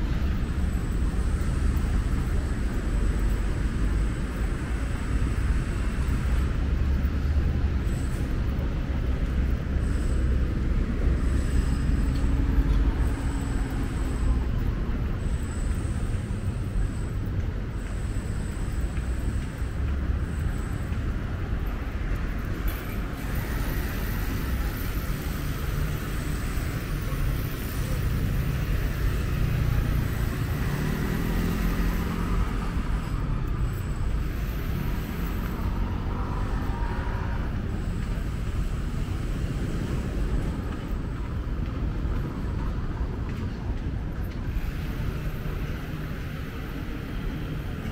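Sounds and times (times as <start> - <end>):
traffic rumble: 0.0 - 47.9.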